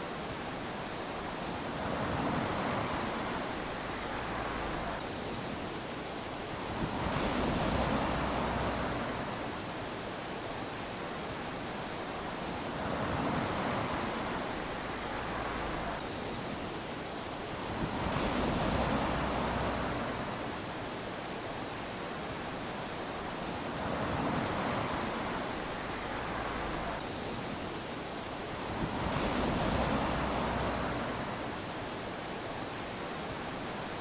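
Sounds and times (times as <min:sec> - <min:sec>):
small waves lapping on sand: 0:00.0 - 0:34.0.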